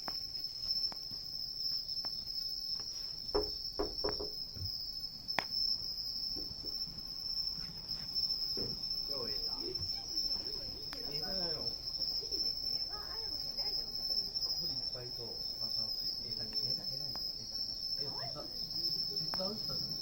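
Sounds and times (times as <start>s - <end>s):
campfire pops and crackles: 0.0s - 20.0s
crickets trilling: 0.0s - 20.0s.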